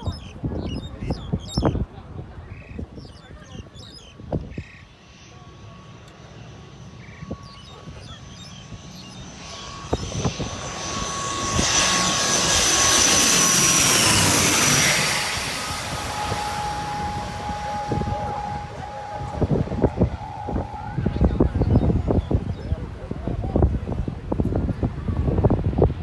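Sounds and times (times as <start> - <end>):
turboprop airliner passing overhead: 0.0 - 26.0.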